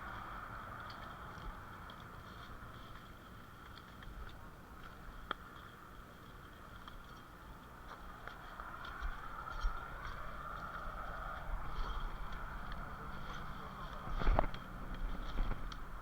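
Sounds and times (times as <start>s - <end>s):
light footsteps: 0.0s - 16.0s.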